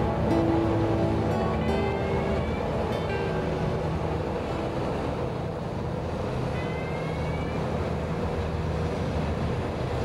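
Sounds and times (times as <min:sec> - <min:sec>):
ship engines droning: 0:00.0 - 0:10.0
water wash: 0:00.0 - 0:10.0.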